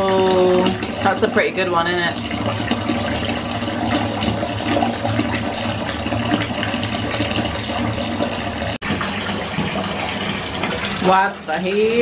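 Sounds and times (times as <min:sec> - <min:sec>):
tap running into bathtub: 0:00.0 - 0:12.0.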